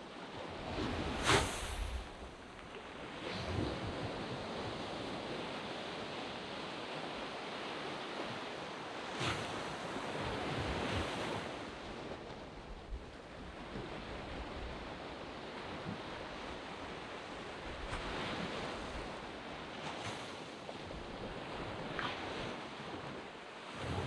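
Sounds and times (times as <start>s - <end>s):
waves washing up a sand beach: 0.0s - 24.0s
wind on microphone: 0.4s - 7.1s, 9.1s - 24.0s.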